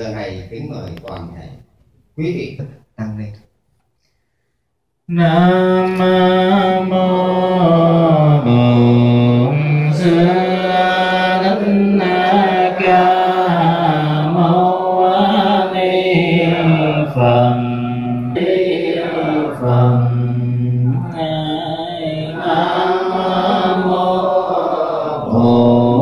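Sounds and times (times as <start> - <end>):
chanting with long held notes: 5.1 - 26.0.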